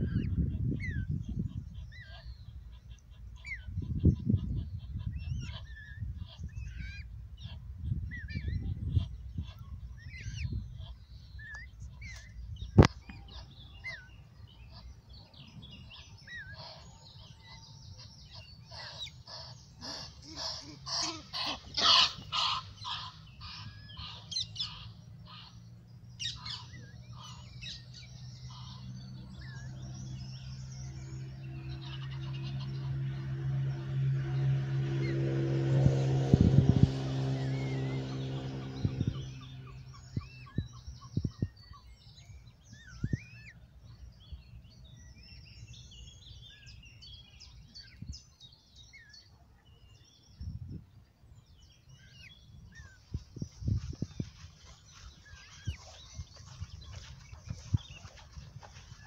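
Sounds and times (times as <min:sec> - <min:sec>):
low droning hum: 0:00.0 - 0:48.2, 0:50.4 - 0:59.0
small birds chirping: 0:00.0 - 0:59.0.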